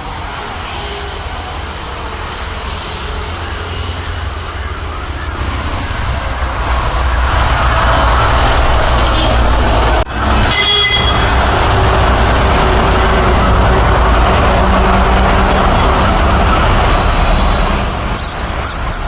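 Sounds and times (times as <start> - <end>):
heavy road traffic rumble: 0.0 - 19.0.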